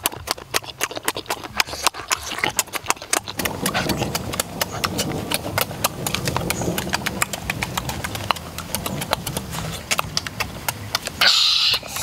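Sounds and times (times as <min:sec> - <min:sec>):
open-mouthed chewing: 0:00.0 - 0:12.0.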